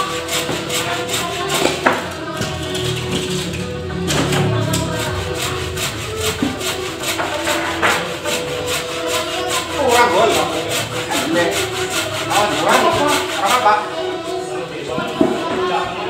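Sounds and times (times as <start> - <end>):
background music with quick beat: 0.0 - 14.0
hand tool rubbing wood: 0.0 - 16.0.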